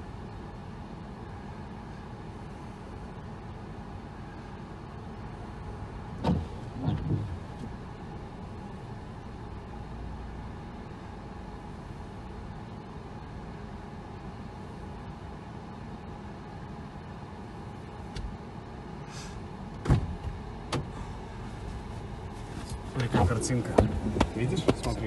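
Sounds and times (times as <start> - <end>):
low rumble of engine and tyres: 0.0 - 25.0.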